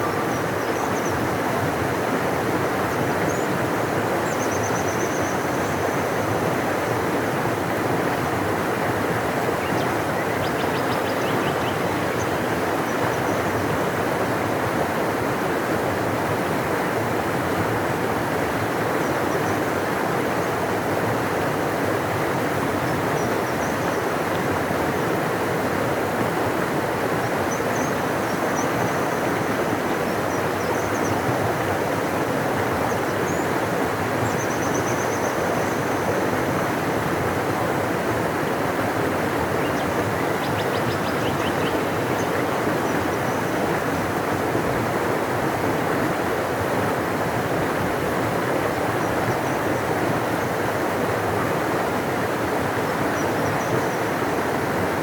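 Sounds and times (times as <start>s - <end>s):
river rushing: 5.4s - 55.0s.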